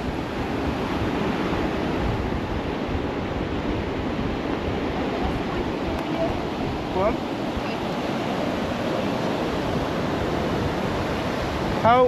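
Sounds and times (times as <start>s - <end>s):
ocean waves on beach: 0.0s - 12.0s
wind buffeting microphone: 0.0s - 12.0s.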